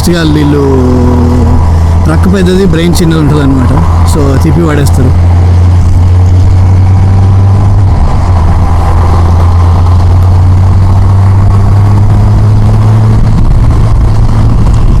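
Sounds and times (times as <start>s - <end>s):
motorcycle engine cruising: 0.0s - 15.0s
rushing road noise: 0.0s - 15.0s.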